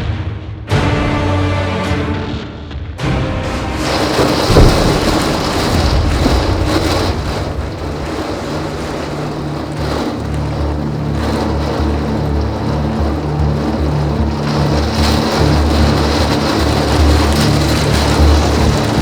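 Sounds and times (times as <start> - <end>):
heavy rain: 3.0 - 19.0
thunderclap rumbling: 3.0 - 19.0.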